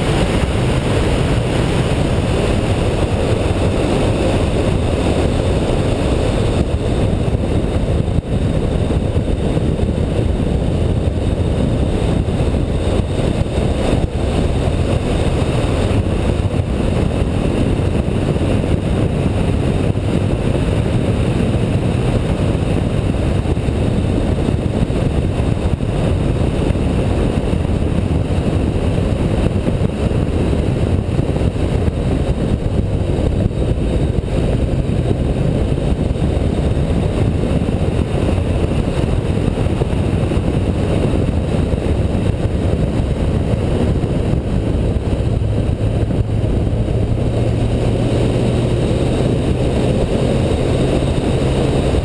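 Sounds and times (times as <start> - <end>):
wind and road noise from car: 0.0 - 52.0.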